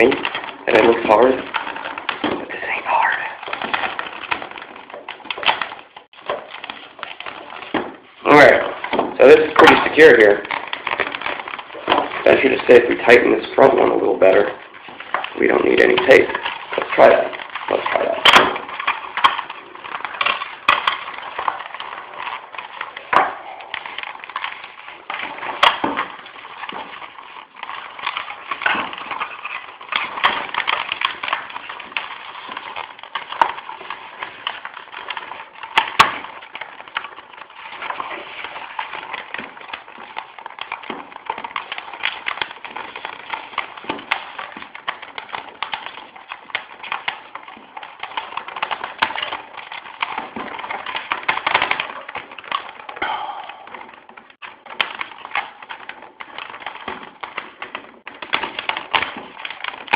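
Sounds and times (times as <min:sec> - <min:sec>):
scratching and rustling of handling: 0:00.0 - 0:59.9.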